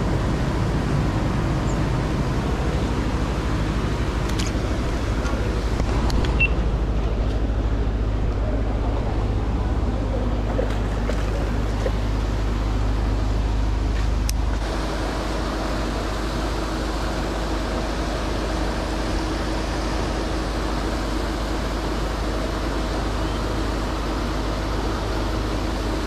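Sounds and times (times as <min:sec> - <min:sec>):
faint steady hum: 0:00.0 - 0:26.0
pond aerators churning water: 0:00.0 - 0:26.0.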